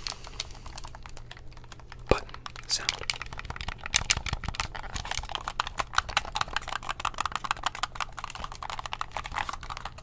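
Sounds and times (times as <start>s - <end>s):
controller buttons clicking rapidly: 1.6s - 10.0s.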